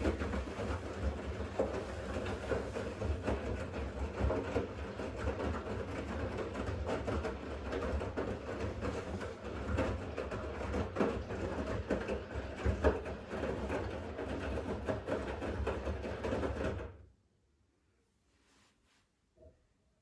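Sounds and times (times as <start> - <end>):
laundry tumbling in drum: 0.0 - 16.9
washing machine motor hum: 0.0 - 16.9.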